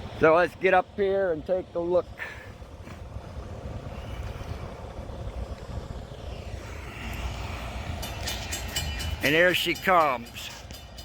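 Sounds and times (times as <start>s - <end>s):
freight train diesel rumble: 0.0s - 11.0s.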